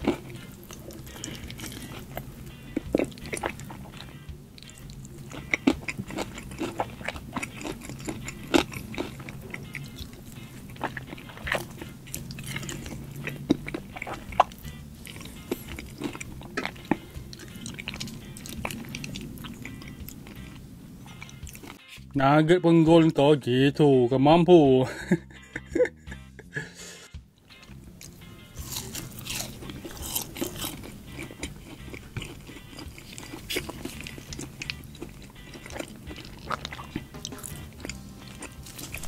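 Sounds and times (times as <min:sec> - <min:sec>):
chewing and biting chicken: 0:00.0 - 0:21.8, 0:28.0 - 0:39.0
soft background music: 0:00.0 - 0:39.0.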